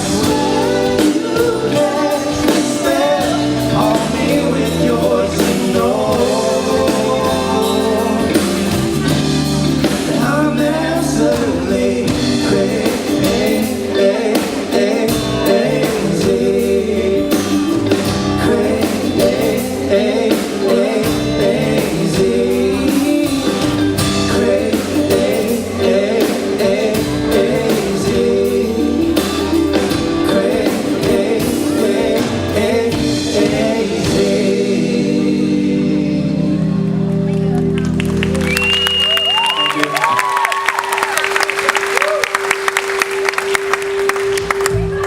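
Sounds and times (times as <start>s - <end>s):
person singing: 0.0s - 37.2s
live pop-rock band: 0.0s - 45.0s.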